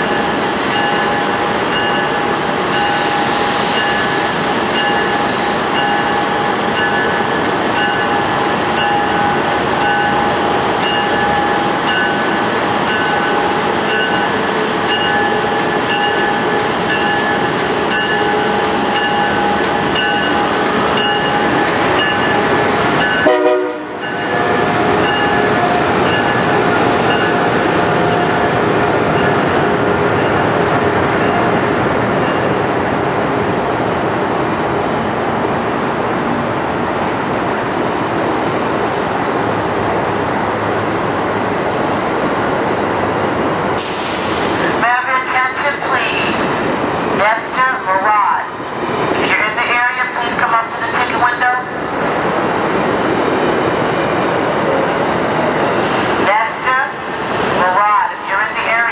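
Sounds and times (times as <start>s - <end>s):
electric train whine: 0.0s - 58.9s.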